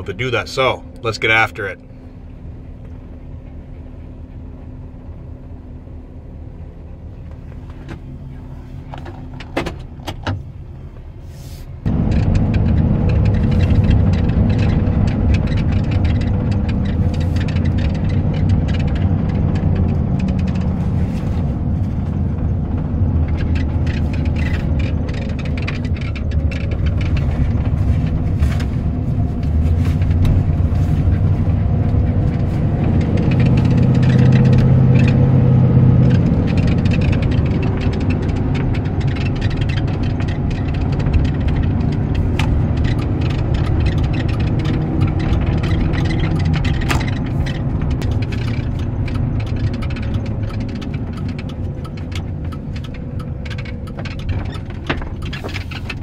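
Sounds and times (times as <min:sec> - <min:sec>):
van engine and road rumble: 0:00.0 - 0:56.0.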